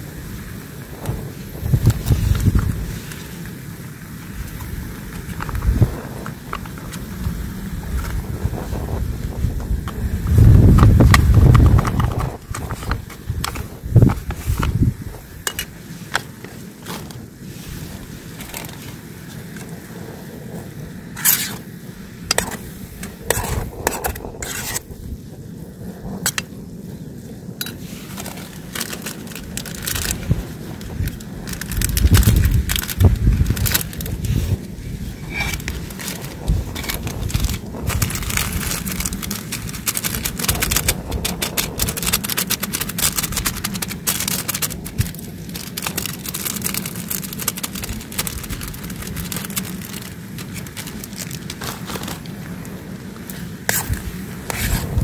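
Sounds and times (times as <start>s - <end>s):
wind buffeting microphone: 0.0s - 55.0s
clicks scrapes and crunches: 1.0s - 3.4s, 4.4s - 7.2s, 9.8s - 19.8s, 21.2s - 21.6s, 22.3s - 25.0s, 27.6s - 55.0s.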